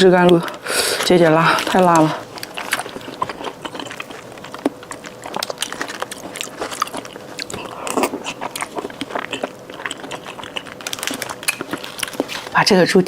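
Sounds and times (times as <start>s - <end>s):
chewing and lip smacks: 1.5s - 12.6s.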